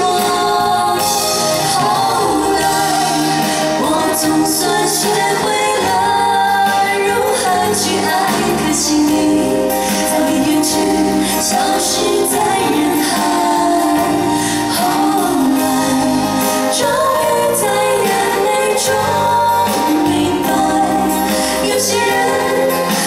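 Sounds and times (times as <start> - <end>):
band accompaniment: 0.0 - 23.0
woman singing into microphone: 0.0 - 23.0.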